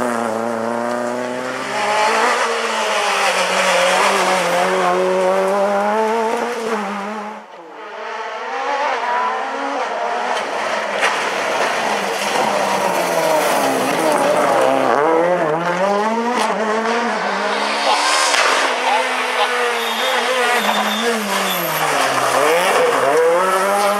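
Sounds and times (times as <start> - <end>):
rally car engine at full throttle: 0.0 - 23.9.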